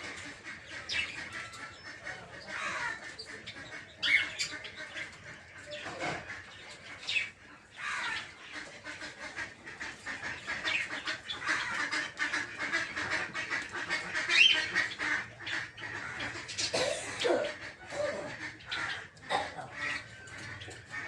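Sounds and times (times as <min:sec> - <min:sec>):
lovebirds chirping and squawking: 0:00.0 - 0:21.0.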